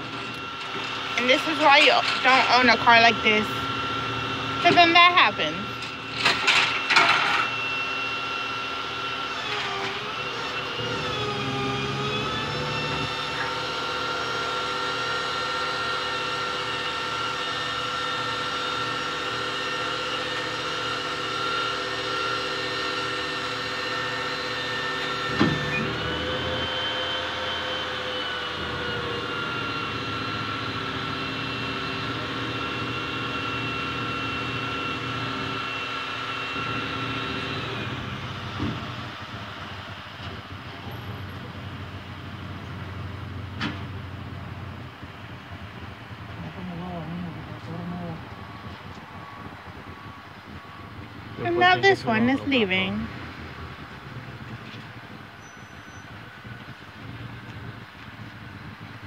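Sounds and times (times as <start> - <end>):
truck engine running with whine: 0.0 - 59.0.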